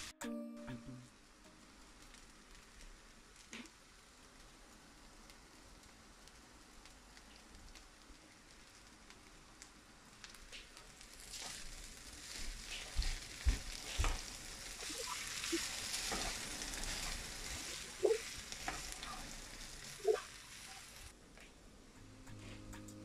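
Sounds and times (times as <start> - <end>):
rice sizzling in a wok: 1.2 - 21.2.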